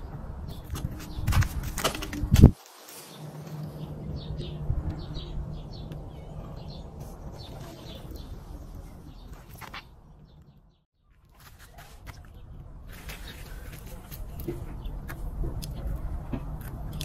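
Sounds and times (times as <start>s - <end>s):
birds chirping: 0.0s - 10.9s, 11.8s - 17.0s.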